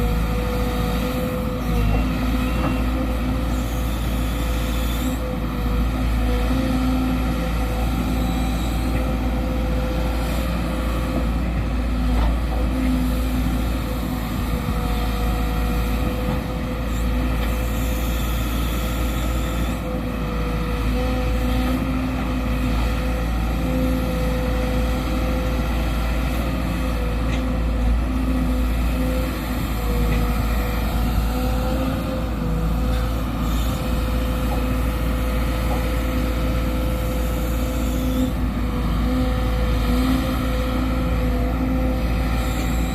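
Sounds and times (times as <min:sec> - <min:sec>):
excavator diesel engine drone: 0:00.0 - 0:42.9.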